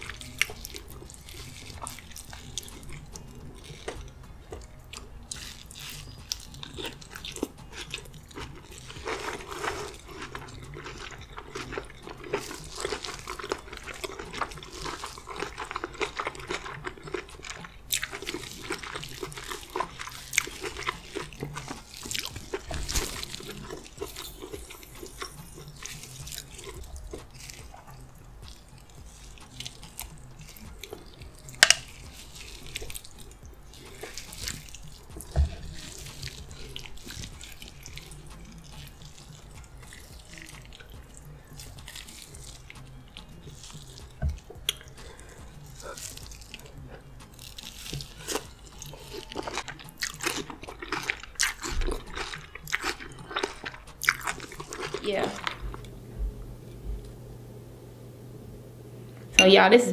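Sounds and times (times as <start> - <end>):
hands squishing through food: 0.0 - 56.0
chewing with wet smacks: 0.0 - 57.2.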